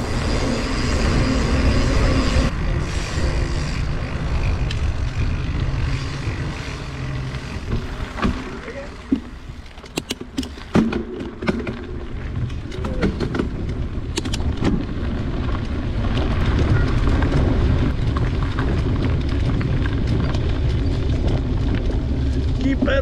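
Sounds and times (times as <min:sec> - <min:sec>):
bike clicks and rattles: 0:00.0 - 0:23.0
tyres rolling over dirt: 0:00.0 - 0:23.0
wind rumbling on microphone: 0:00.0 - 0:23.0.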